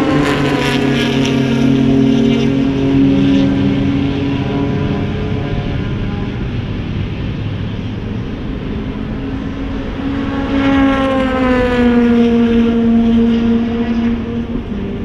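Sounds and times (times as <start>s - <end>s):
race car engine: 0.0s - 15.0s.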